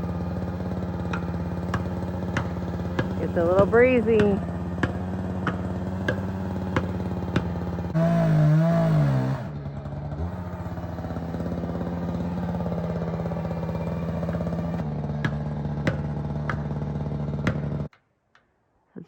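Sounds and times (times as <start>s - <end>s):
chainsaw engine running: 0.0s - 17.9s.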